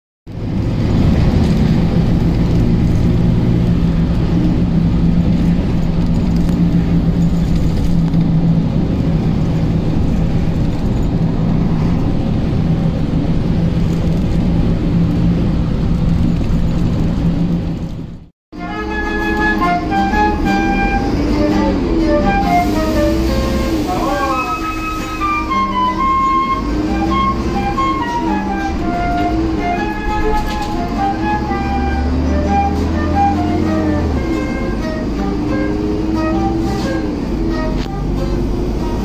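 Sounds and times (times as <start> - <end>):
vehicle engine hum and road noise: 0.3 - 39.0.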